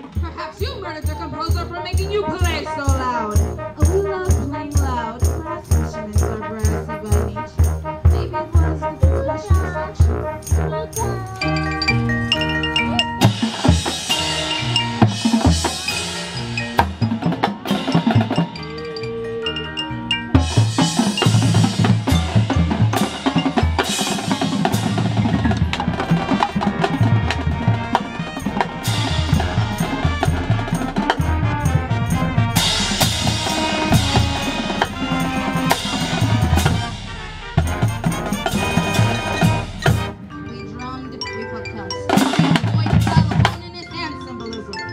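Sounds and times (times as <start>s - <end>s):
drumline: 0.0s - 44.8s
mallet percussion: 0.0s - 44.9s
marching band playing: 0.0s - 44.9s.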